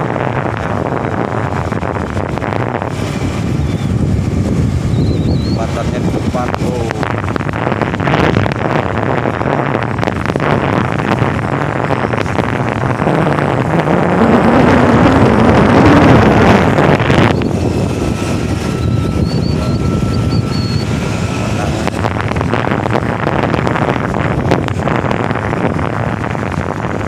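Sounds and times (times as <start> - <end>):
vehicle and road noise: 0.0 - 27.0
wind rushing over microphone: 0.0 - 27.0.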